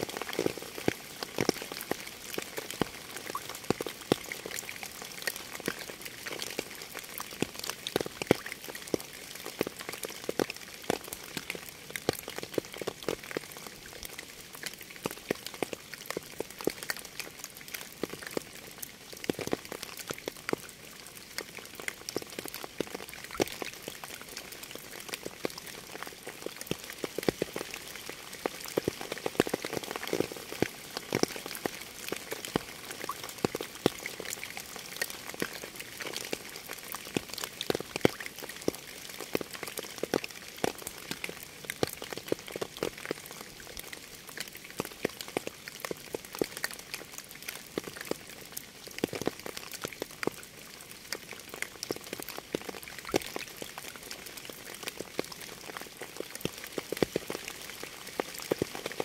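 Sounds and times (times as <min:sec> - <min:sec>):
rain on hard surface: 0:00.0 - 0:59.0.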